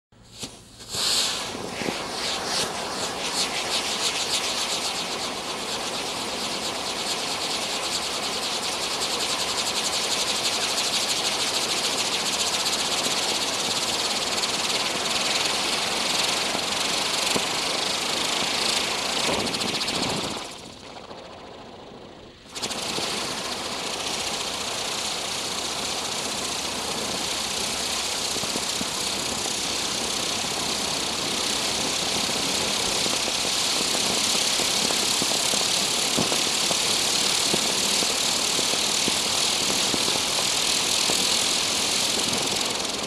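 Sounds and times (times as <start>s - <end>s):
firework hissing: 0.2s - 43.0s.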